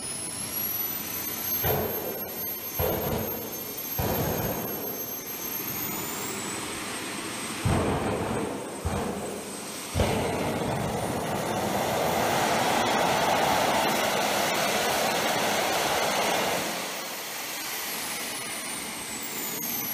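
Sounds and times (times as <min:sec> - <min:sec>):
model jet turbine running: 0:00.0 - 0:19.9.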